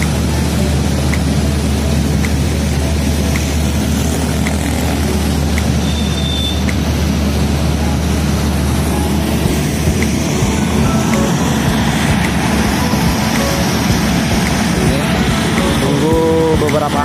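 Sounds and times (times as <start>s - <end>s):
cars passing: 0.0s - 17.0s
low engine drone: 0.0s - 17.0s
motorcycles passing: 0.0s - 17.0s.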